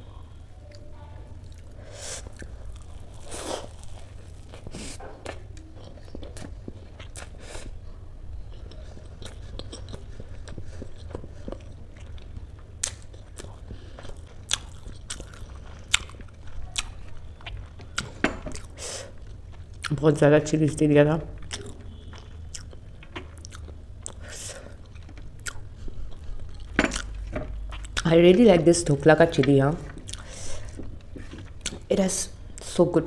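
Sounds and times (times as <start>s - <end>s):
chewing with wet mouth clicks: 0.7s - 7.4s, 8.5s - 20.1s, 21.4s - 28.1s, 29.9s - 31.9s.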